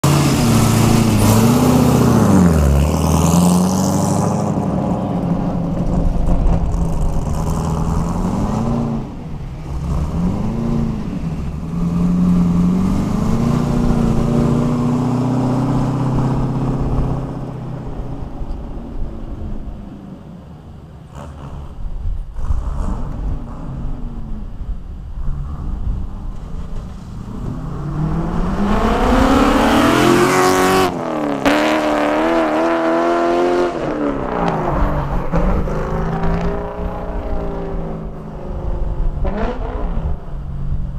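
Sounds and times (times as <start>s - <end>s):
car engine accelerating hard: 0.0s - 19.9s, 21.0s - 40.9s.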